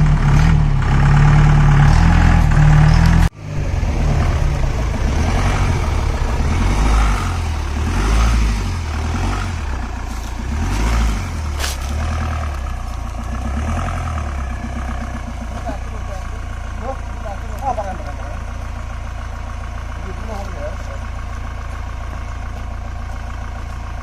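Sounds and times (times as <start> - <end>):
jeep engine rumbling: 0.0 - 24.0.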